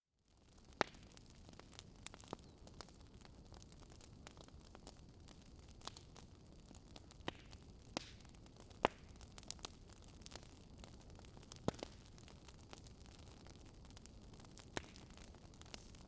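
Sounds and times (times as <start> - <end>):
burning wood crackling: 0.3 - 16.0.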